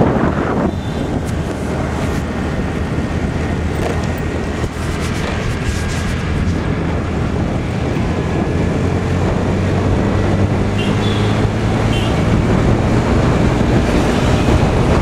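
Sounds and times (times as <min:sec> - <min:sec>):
scooter engine humming: 0:00.0 - 0:15.0
wind rushing over microphone: 0:00.0 - 0:15.0.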